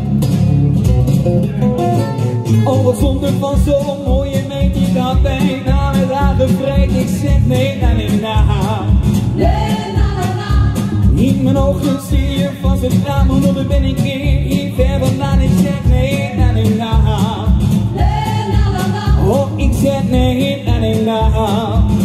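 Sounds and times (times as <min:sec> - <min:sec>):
backing track with steady beat: 0:00.0 - 0:22.0
man singing into microphone: 0:02.5 - 0:09.8, 0:11.0 - 0:22.0.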